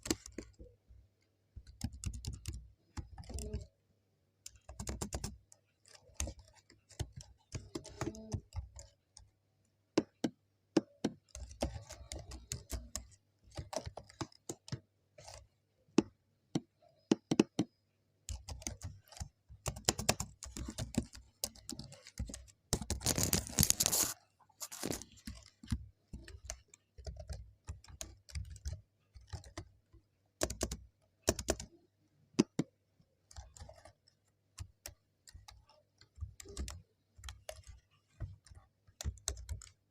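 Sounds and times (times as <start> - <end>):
computer keyboard typing: 0.0 - 3.8, 4.4 - 9.4, 10.0 - 39.9.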